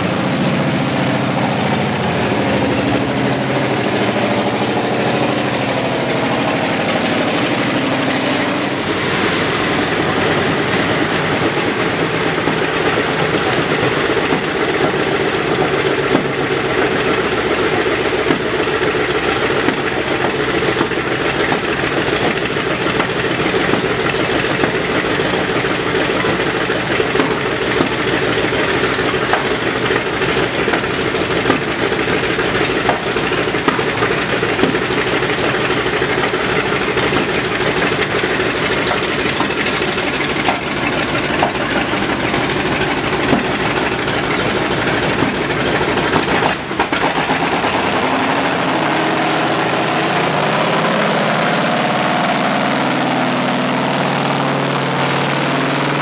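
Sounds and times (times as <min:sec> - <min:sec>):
tank engine passing close by: 0:00.0 - 0:56.0
tracked vehicle engines running: 0:00.0 - 0:56.0.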